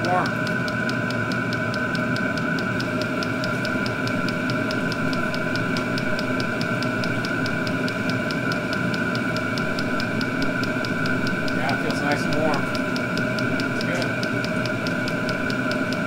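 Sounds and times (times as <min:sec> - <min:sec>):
fuel pump ticking: 0:00.0 - 0:16.0
heater fan whine: 0:00.0 - 0:16.0.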